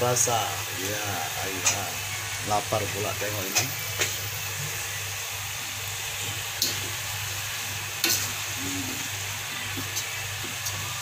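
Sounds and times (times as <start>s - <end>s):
leaves sizzling in a wok: 0.0s - 11.0s.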